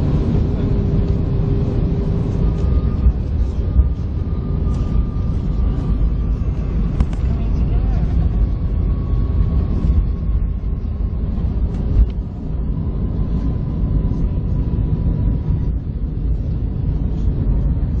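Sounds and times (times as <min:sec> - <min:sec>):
faint steady whine: 0:00.0 - 0:18.0
jet airliner low rumble: 0:00.0 - 0:18.0.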